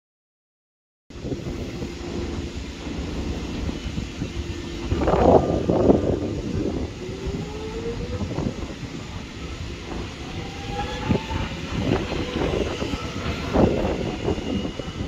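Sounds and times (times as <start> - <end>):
electric train motors whining: 1.2 - 15.0.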